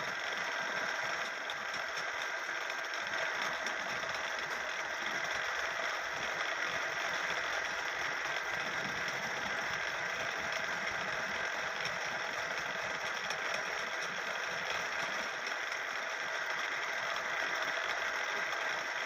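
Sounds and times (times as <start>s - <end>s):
wood-turning lathe whirring: 0.0s - 19.0s.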